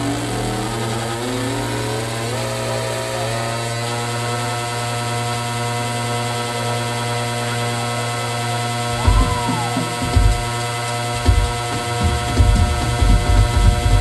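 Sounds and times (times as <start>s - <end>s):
guitar and keyboard drone: 0.0s - 14.0s
low hum: 0.0s - 14.0s.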